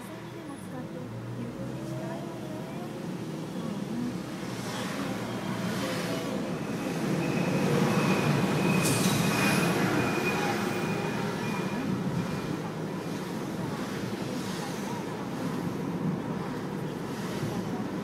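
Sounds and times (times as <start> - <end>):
car engine and tyre noise: 0.0 - 18.0.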